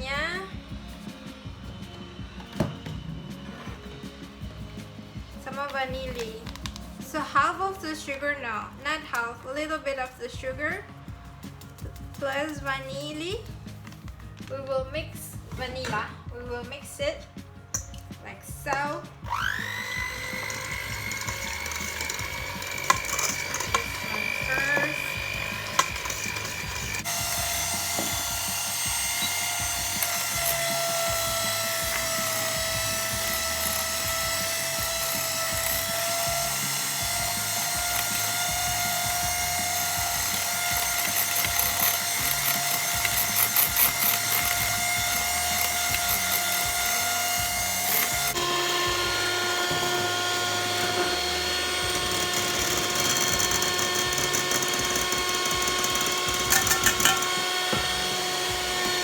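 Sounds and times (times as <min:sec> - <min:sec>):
electric hand mixer whisking: 0:00.0 - 0:59.0.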